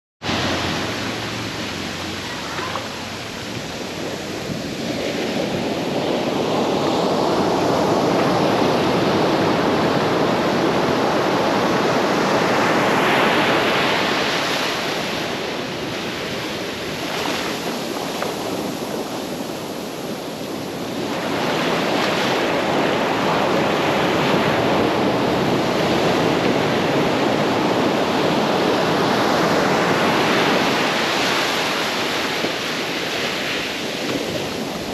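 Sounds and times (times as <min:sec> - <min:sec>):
ocean surf breaking on beach: 0:00.2 - 0:34.9.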